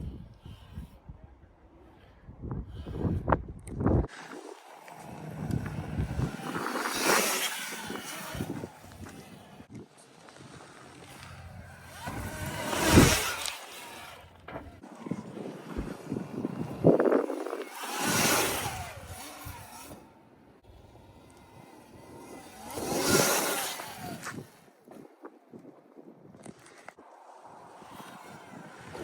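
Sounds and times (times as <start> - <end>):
electric dirt bikes riding past: 4.0 - 25.4, 26.5 - 29.0.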